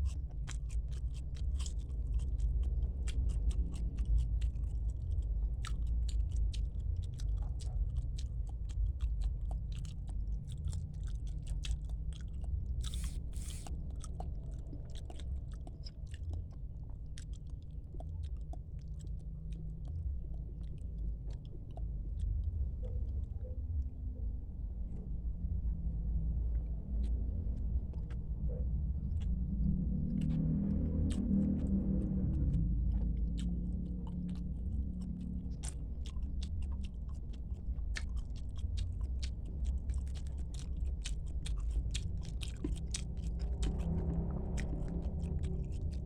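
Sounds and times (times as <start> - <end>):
person chewing food: 0.0 - 23.6, 26.5 - 46.0
wet mouth clicks: 0.0 - 23.6, 26.5 - 46.0
low hum: 0.0 - 46.0.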